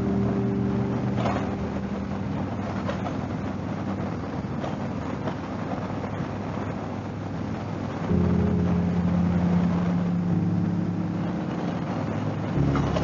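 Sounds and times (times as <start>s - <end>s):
motorcycle engine rumbling: 0.0s - 13.0s
wind and road noise: 0.0s - 13.0s.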